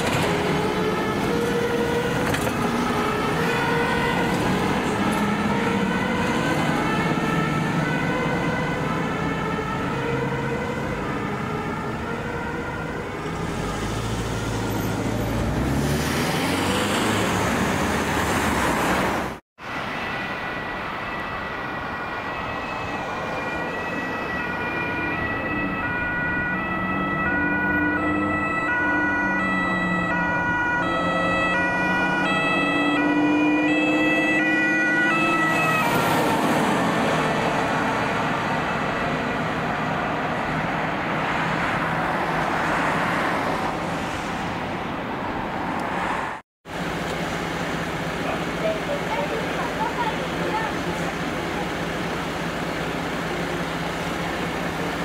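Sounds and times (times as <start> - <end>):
fire engine two-tone siren: 0.0 - 19.0, 19.6 - 44.0, 46.6 - 55.0
heavy truck engine and tyres: 0.0 - 55.0.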